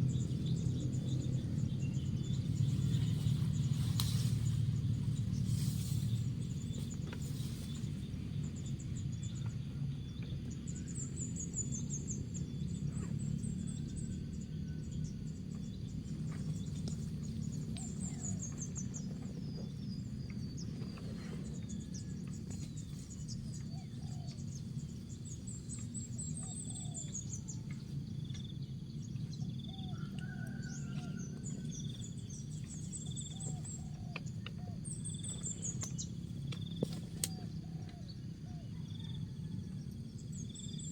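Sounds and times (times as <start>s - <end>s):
small birds chirping: 0.0s - 40.9s
steady low rumble: 0.0s - 40.9s.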